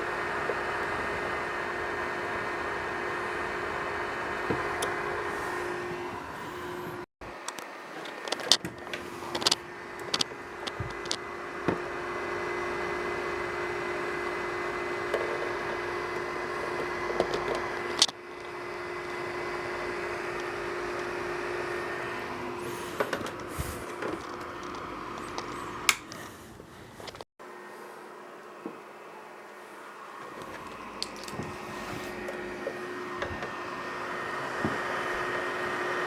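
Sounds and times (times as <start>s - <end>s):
dehumidifier fan whirring: 0.0s - 36.0s.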